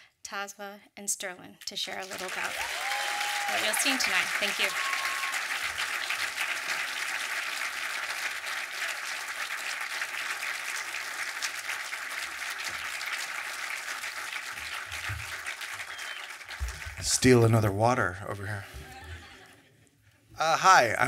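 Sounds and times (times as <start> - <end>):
audience applauding: 1.9 - 19.6.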